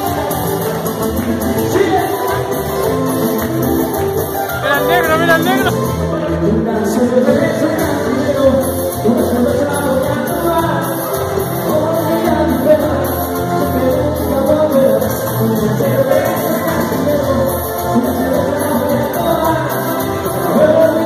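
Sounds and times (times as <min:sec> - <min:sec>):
live band with vocals: 0:00.0 - 0:21.0.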